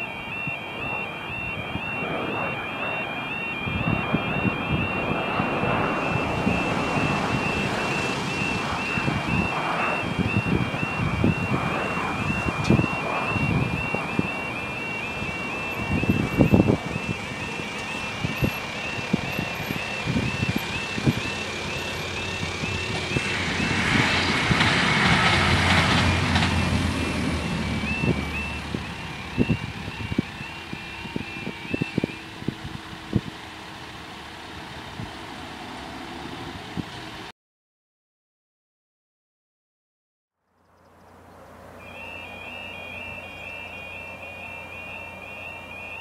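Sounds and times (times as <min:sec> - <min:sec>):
level crossing alarm warbling: 0:00.0 - 0:34.7, 0:41.8 - 0:46.0
diesel train engine and wheels: 0:00.0 - 0:37.3, 0:40.8 - 0:46.0.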